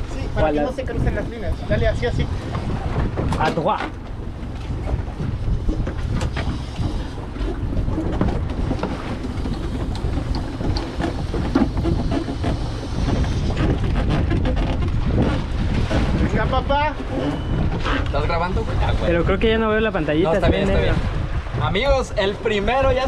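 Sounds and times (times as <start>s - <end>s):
boat motor rumbling: 0.0s - 23.0s
wind buffeting microphone: 0.0s - 23.0s.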